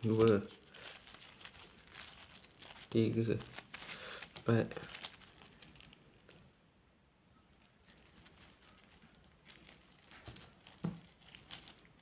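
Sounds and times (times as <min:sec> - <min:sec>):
plastic packets rustling: 0:00.0 - 0:06.4, 0:07.6 - 0:12.0.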